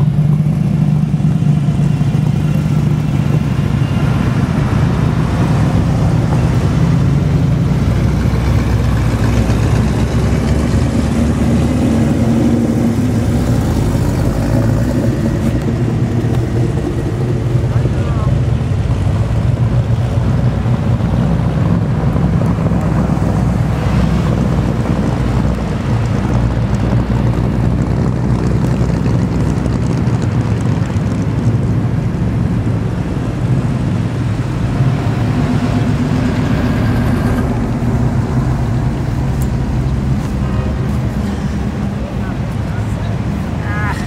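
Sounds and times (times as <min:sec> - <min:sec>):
car engines droning past: 0:00.0 - 0:44.0.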